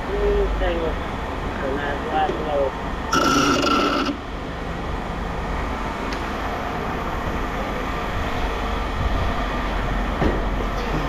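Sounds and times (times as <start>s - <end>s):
machinery rumbling: 0.0s - 11.0s.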